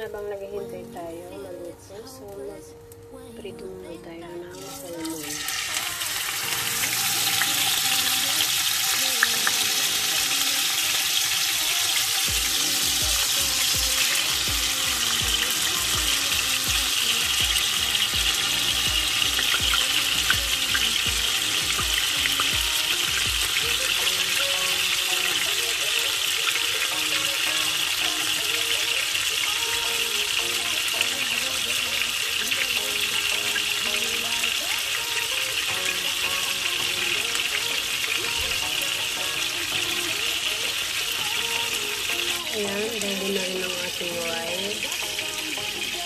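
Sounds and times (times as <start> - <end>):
fish sizzling in hot oil: 4.3 - 46.0.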